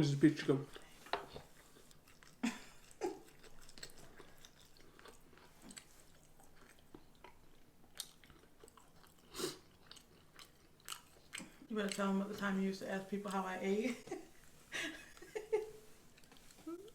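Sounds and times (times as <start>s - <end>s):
person chewing food: 0.7s - 12.0s, 14.2s - 16.9s.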